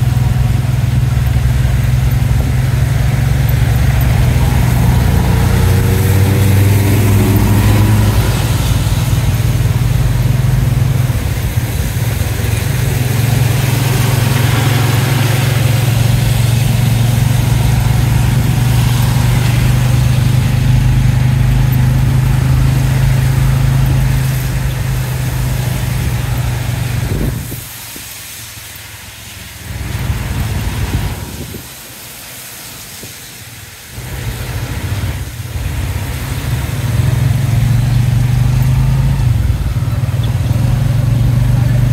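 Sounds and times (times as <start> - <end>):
tyres hissing on wet road: 0.0 - 41.9.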